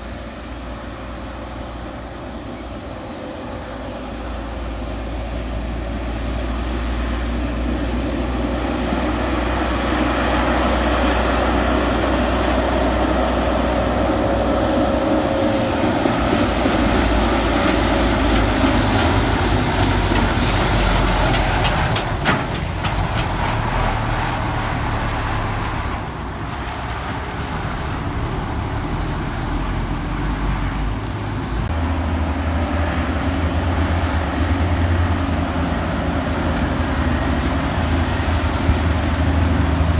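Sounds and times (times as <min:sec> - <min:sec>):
road and tyre noise: 0:00.0 - 0:39.9
truck diesel engine under load: 0:00.0 - 0:39.9.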